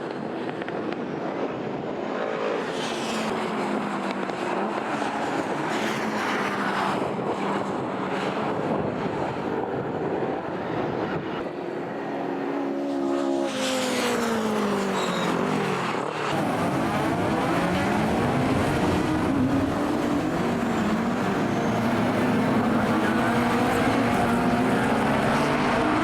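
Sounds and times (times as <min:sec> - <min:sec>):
racing car engines passing: 0:01.6 - 0:26.0.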